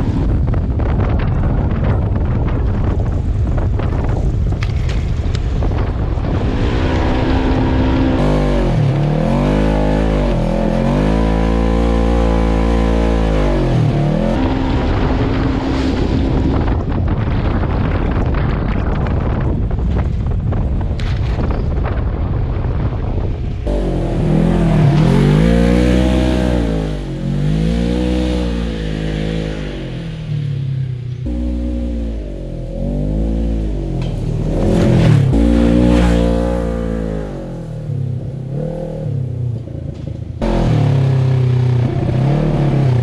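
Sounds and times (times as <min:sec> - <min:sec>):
wind on microphone: 0:00.0 - 0:40.5
utility vehicle engine exhaust: 0:00.0 - 0:43.0.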